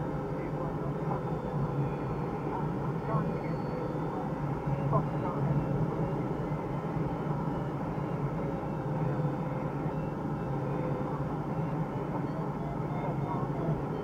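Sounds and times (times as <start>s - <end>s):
airflow rushing around cockpit: 0.0s - 14.0s.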